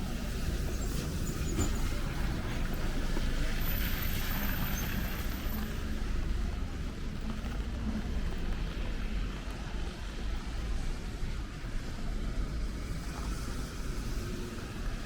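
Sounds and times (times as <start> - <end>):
traffic on wet roads: 0.0 - 15.0.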